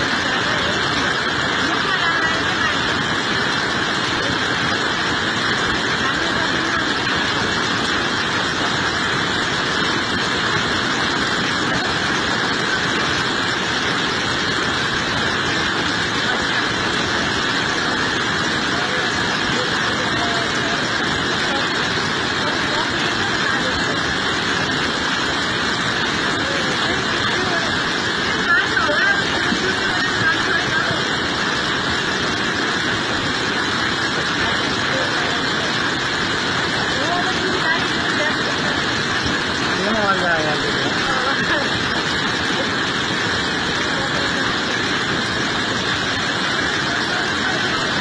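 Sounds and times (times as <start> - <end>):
river rushing over boulders: 0.0 - 48.0.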